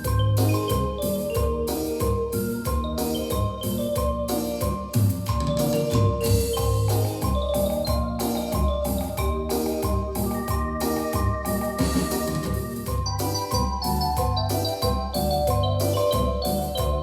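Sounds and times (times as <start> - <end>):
percussive hits: 0.0 - 17.0
synth bass line: 0.0 - 17.0
synthesizer marimba tone melody: 0.0 - 17.0.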